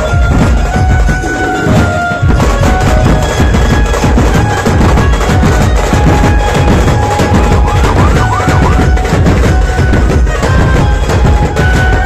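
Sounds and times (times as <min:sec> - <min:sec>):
loud drum beats: 0:00.0 - 0:12.0.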